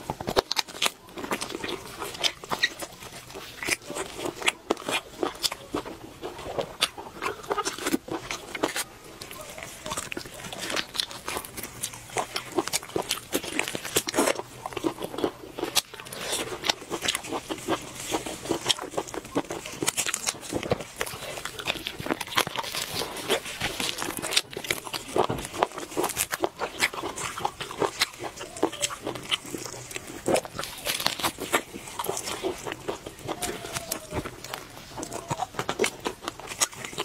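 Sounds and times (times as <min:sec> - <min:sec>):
wet chewing and smacking: 0:00.0 - 0:37.0.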